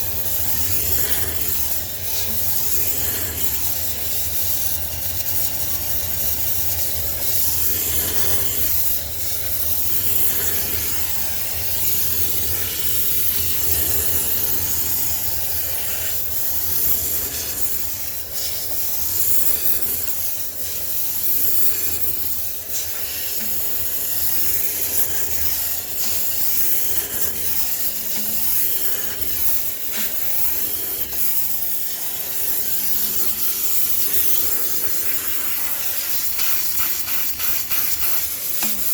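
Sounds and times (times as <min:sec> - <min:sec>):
steam cleaner hissing: 0:00.0 - 0:38.9.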